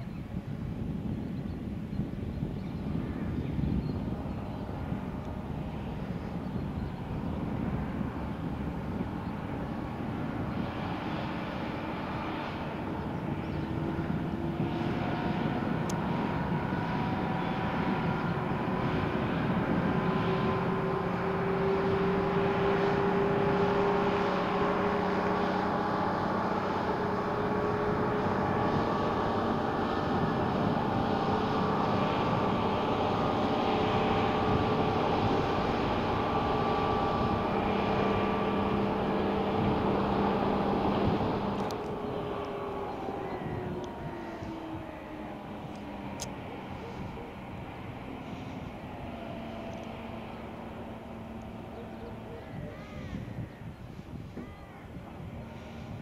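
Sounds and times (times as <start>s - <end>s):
dump truck diesel engine droning: 6.8s - 56.0s.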